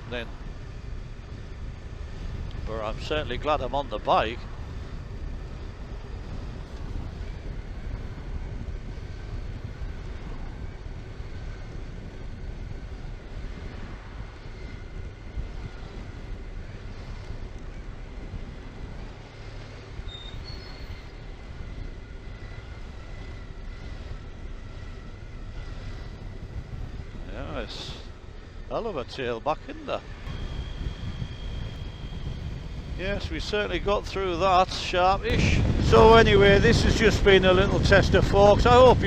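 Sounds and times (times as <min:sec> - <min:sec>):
wind noise: 0:00.0 - 0:39.0.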